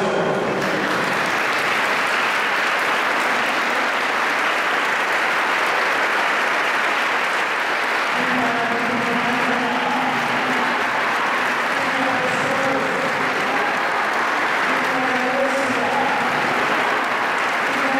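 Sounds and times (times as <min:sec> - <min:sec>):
crowd applauding: 0:00.0 - 0:17.9.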